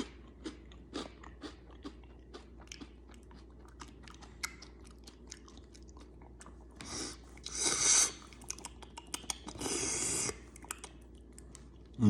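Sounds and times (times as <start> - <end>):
chewing crunchy snacks: 0.0 - 12.0.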